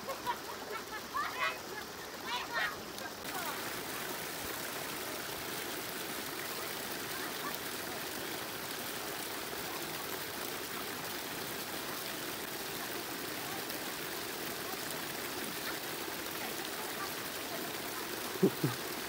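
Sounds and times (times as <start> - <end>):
shallow water running: 0.0 - 19.0.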